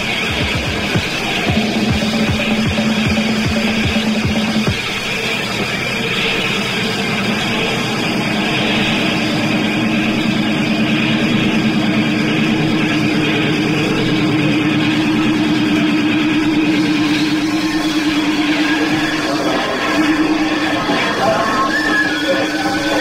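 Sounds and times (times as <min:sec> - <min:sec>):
distorted electric guitar feedback: 0:00.0 - 0:23.0.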